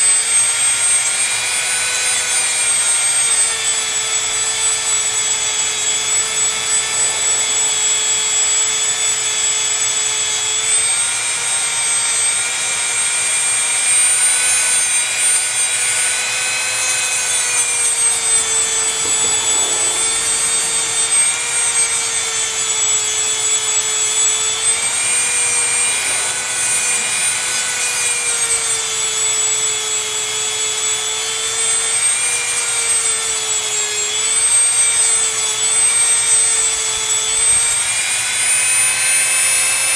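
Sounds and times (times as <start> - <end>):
rotary tool grinding with whine: 0.0 - 39.9.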